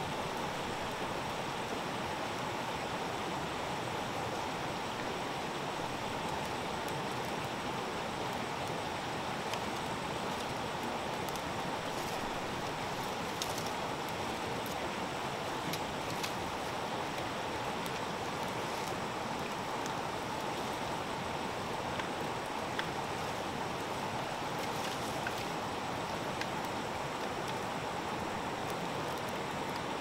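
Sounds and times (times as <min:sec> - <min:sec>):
faint crackles: 0:02.7 - 0:30.0.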